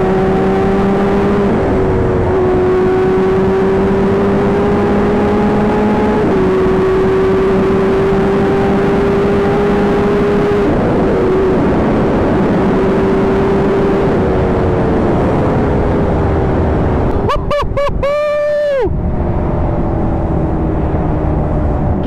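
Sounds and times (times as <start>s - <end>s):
wind noise: 0.0s - 22.0s.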